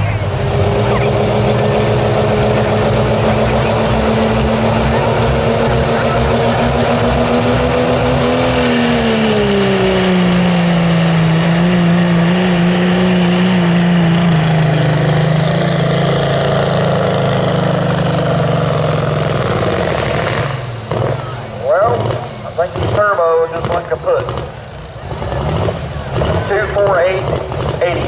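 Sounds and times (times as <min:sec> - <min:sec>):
diesel truck engine at full throttle: 0:00.0 - 0:28.0.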